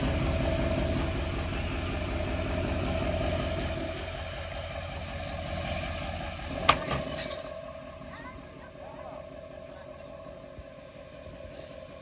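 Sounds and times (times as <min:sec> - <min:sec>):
vehicle engine low rumble: 0:00.0 - 0:12.0.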